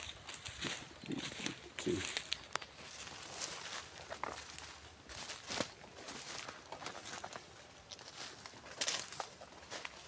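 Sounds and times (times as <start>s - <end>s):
footsteps on path: 0.0s - 10.0s.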